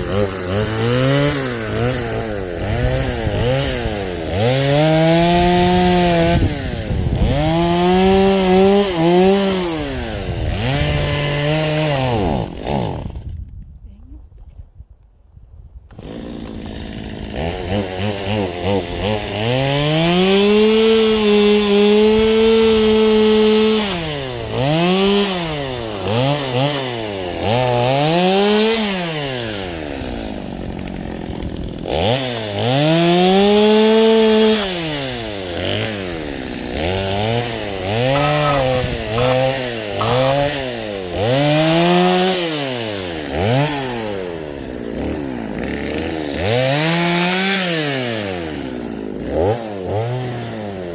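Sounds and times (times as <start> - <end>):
chainsaw revving: 0.0 - 13.3, 15.9 - 50.9.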